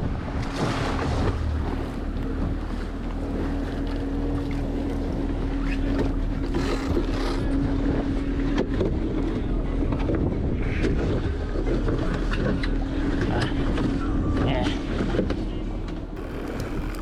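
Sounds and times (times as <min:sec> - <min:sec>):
boat engine humming: 0:00.0 - 0:17.0
wind buffeting microphone: 0:00.0 - 0:17.0.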